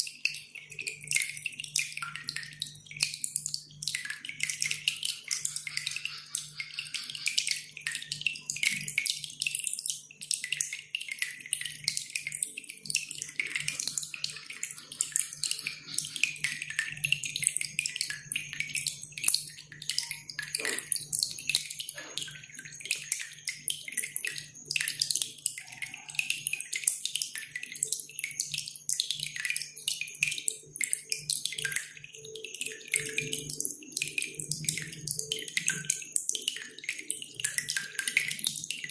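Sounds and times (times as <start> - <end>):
dripping and trickling water: 0.0 - 38.9.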